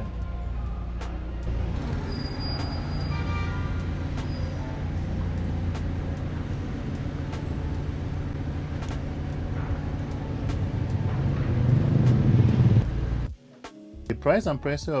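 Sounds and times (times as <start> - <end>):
car engine droning: 0.0 - 13.3.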